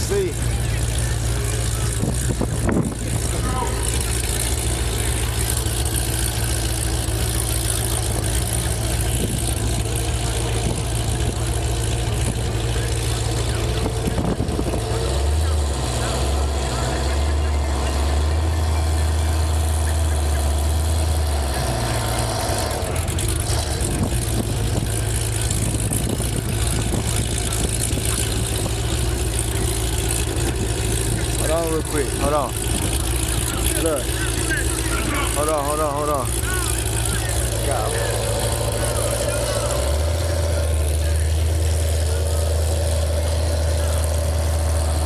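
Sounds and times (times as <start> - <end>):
car engines idling: 0.0 - 45.0.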